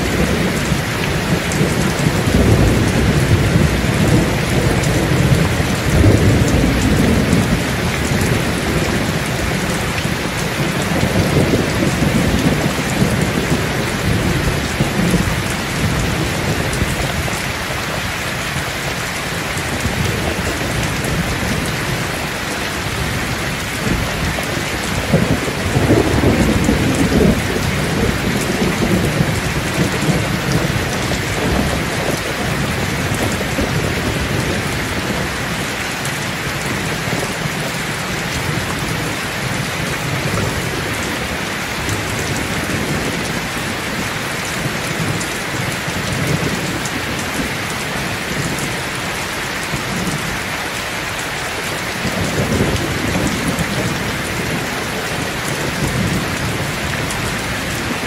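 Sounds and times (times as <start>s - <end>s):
heavy rain on mud and puddles: 0.0s - 58.0s.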